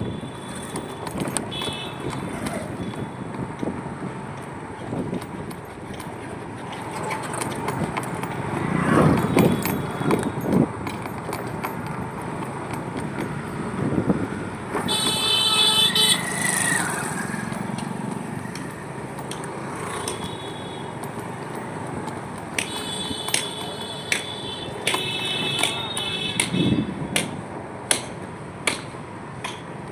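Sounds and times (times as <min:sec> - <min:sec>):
vehicle engines running: 0:00.0 - 0:27.7.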